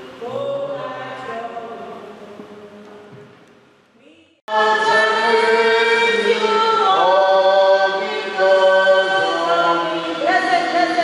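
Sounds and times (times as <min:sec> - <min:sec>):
choir singing: 0:00.0 - 0:03.0, 0:04.5 - 0:11.0.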